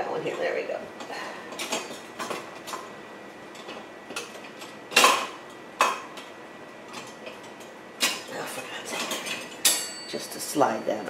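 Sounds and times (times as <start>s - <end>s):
kitchen utensils clattering: 0.3s - 2.9s, 3.5s - 6.3s, 6.9s - 11.0s.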